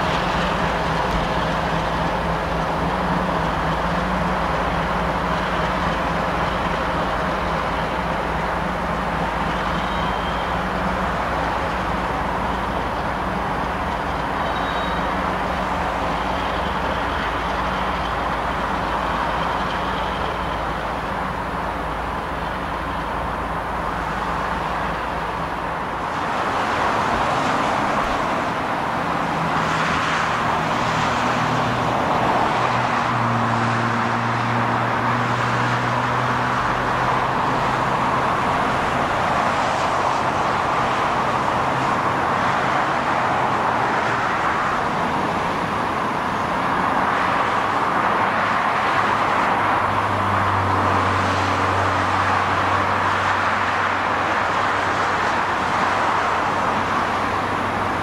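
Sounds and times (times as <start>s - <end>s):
diesel locomotive engines: 0.0s - 58.0s
highway traffic: 0.0s - 58.0s
wheels rumbling on rails: 0.0s - 58.0s.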